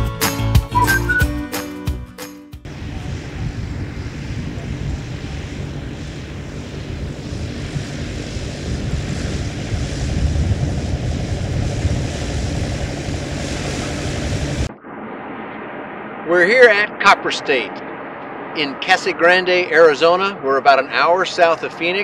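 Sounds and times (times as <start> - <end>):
airplane engine and propeller: 2.6 - 22.0.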